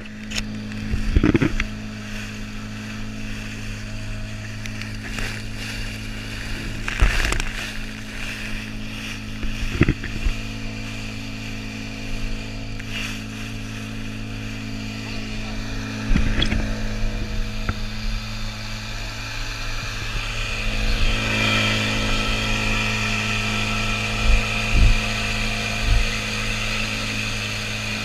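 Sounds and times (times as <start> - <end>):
outboard motor droning: 0.0 - 28.0
wind: 0.0 - 28.0.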